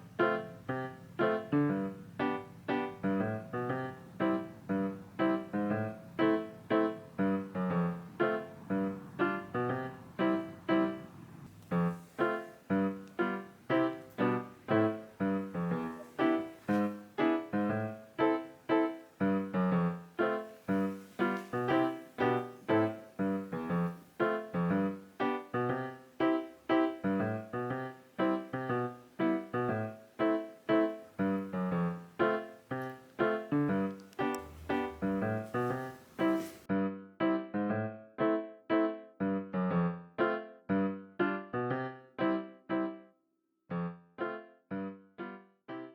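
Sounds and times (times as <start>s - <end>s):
piano music: 0.0s - 43.1s, 43.7s - 45.9s.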